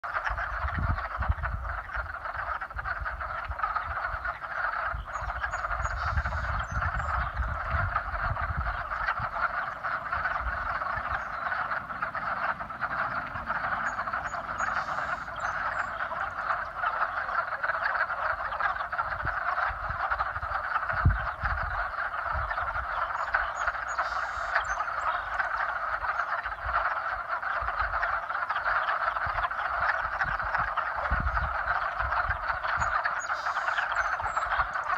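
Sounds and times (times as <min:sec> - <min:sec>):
chorus of frogs calling: 0:00.0 - 0:34.9.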